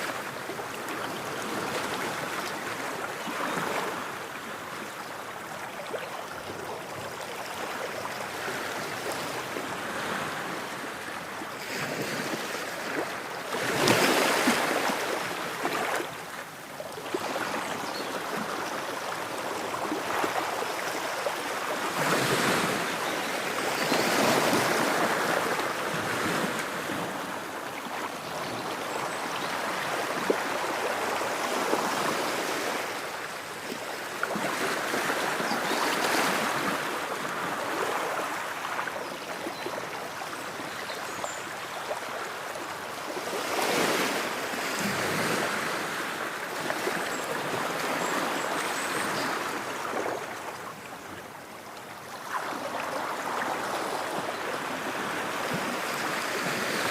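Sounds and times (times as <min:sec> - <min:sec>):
ocean waves on shore: 0:00.0 - 0:56.9.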